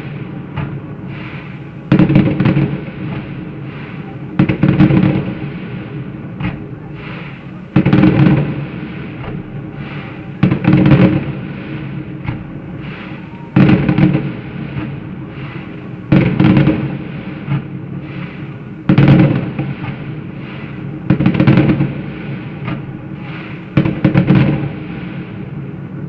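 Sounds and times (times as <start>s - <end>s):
fireworks bangs with crackling rumble: 0.0s - 26.0s.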